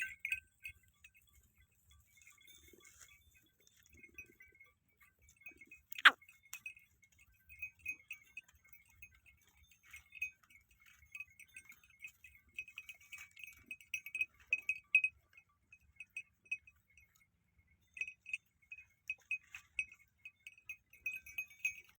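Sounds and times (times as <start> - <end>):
small bells tinkling: 0.0 - 22.0.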